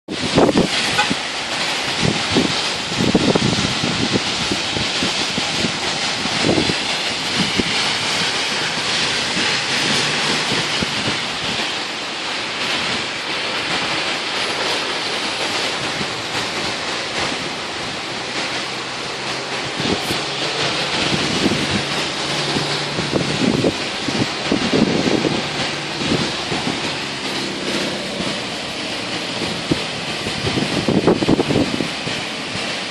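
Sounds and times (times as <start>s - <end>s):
heavy rain hissing: 0.1s - 32.9s
wind buffeting microphone: 0.1s - 32.9s.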